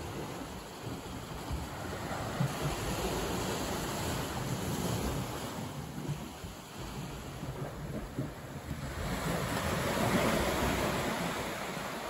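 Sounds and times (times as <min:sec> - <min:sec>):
sea waves washing up a beach: 0:00.0 - 0:12.0.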